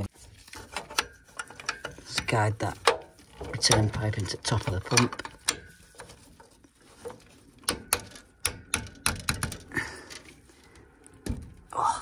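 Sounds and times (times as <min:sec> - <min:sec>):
pipe fitting clicks and knocks: 0:00.6 - 0:10.4.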